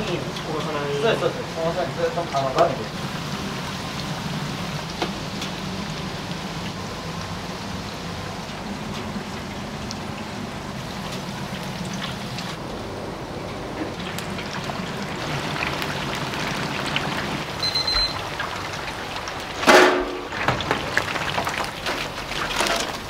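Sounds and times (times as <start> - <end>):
oil sizzling in deep fryer: 0.0 - 23.0.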